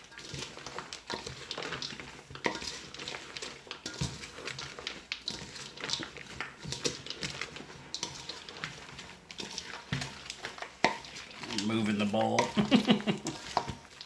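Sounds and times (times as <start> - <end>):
spoon scraping a metal bowl: 0.0 - 11.6, 12.4 - 14.0.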